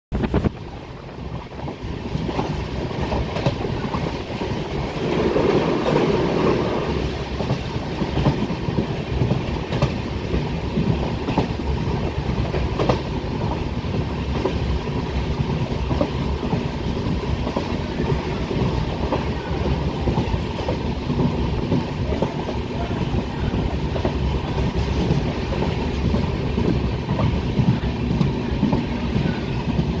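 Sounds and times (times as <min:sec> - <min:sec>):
train clicks and clatter: 0:00.1 - 0:30.0
train wheels rumbling on rails: 0:00.1 - 0:30.0.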